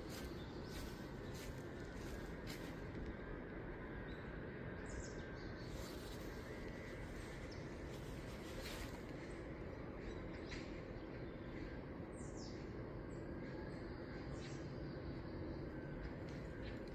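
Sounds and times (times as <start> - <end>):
low outdoor rumble: 0.0 - 16.9.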